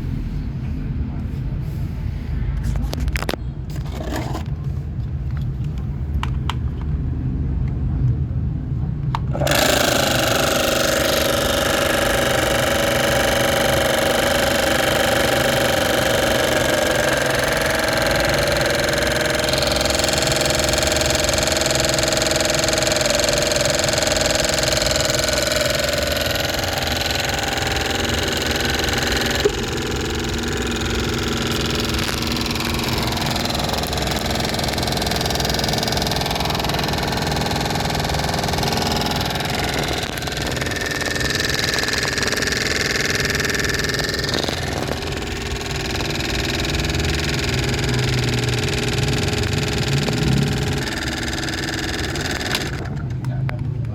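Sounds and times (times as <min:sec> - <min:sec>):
toy washing machine motor whirring: 0:09.1 - 0:53.2.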